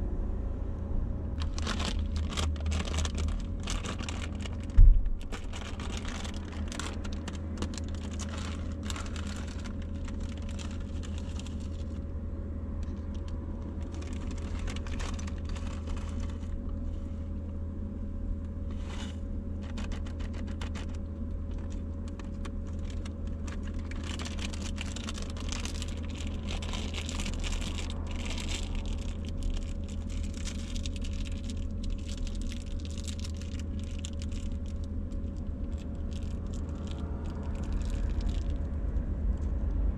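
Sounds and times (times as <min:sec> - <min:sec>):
steady low hum: 0:00.0 - 0:39.9
plastic packets rustling: 0:01.4 - 0:12.0, 0:12.8 - 0:16.6, 0:19.0 - 0:38.7.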